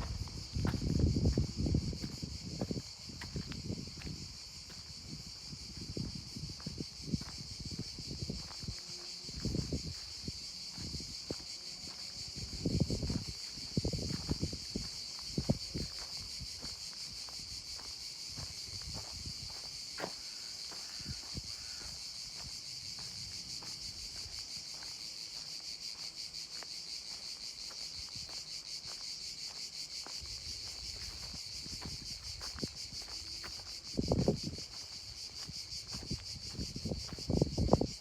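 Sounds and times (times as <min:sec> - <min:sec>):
insects chorus pulsing: 0:00.0 - 0:38.0.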